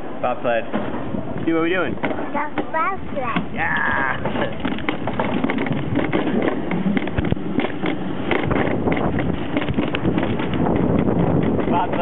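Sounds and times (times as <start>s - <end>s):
sled rattling along track: 0.0s - 12.0s
wind buffeting microphone: 0.8s - 12.0s.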